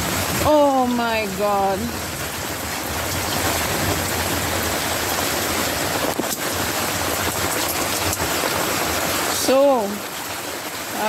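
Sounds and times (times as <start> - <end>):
heavy rain: 0.0 - 11.0
water rushing over gravel: 0.0 - 11.0.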